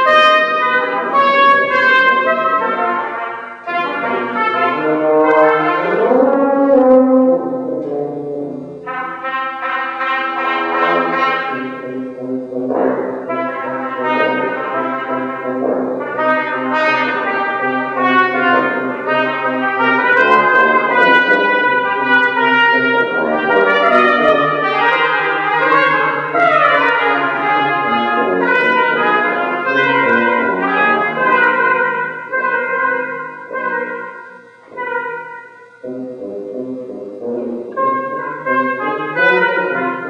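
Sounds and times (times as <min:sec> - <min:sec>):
brass music with held notes: 0:00.0 - 0:40.0.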